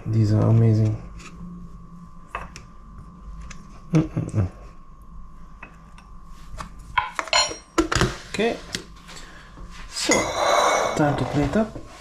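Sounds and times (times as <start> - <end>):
steady hum: 0.0 - 7.7, 8.5 - 12.0.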